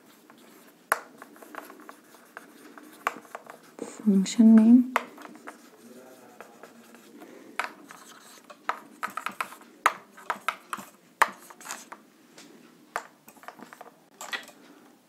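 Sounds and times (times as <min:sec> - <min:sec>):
marker writing on whiteboard: 0:00.0 - 0:12.0, 0:13.0 - 0:14.5.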